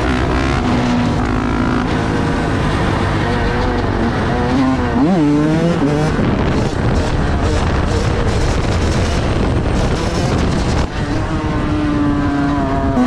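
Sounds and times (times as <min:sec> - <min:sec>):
engine revving: 0:00.0 - 0:13.0
vehicle engines running: 0:00.0 - 0:13.0.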